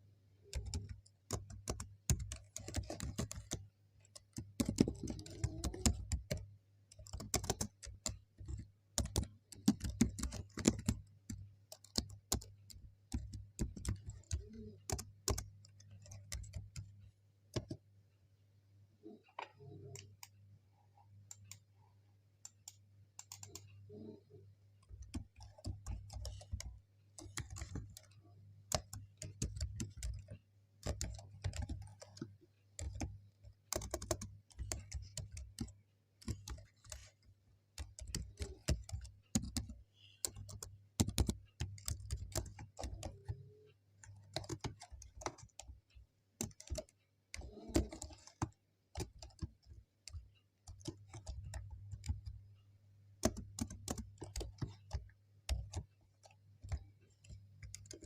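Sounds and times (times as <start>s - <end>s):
computer keyboard typing: 0.4s - 17.9s, 19.0s - 20.4s, 21.2s - 21.7s, 22.4s - 58.0s.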